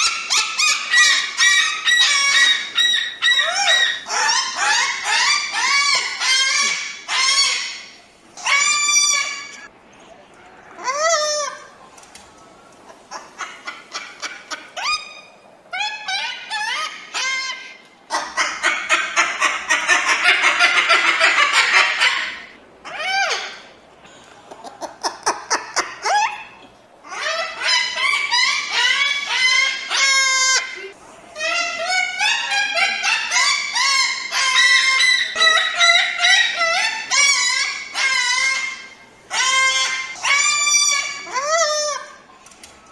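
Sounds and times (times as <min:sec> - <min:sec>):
cockatoo squawking and chattering: 0:00.0 - 0:09.7, 0:10.8 - 0:11.8, 0:12.9 - 0:23.7, 0:24.5 - 0:42.3.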